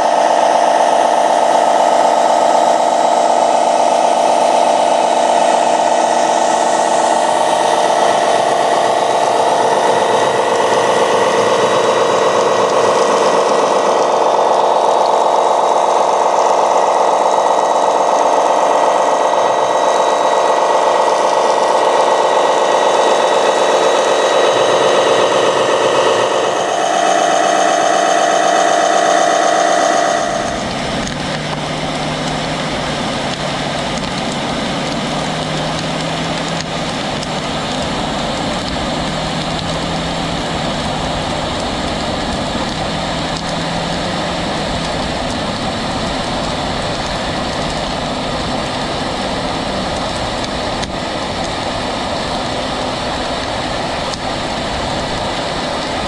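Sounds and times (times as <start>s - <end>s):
toy truck whine: 0.0s - 51.6s
engine-like low drone: 0.0s - 56.0s.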